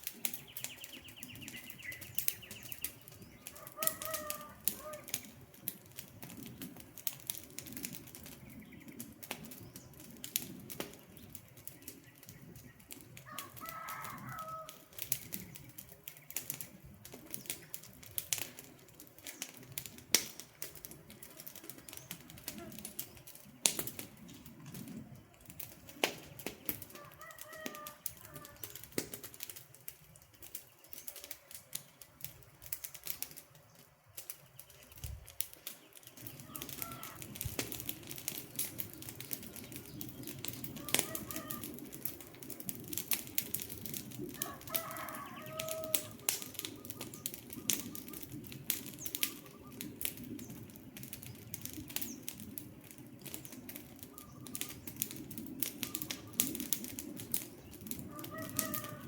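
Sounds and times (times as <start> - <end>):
low rush of flames: 0.0 - 59.0
wood fire crackling and popping: 0.0 - 59.0.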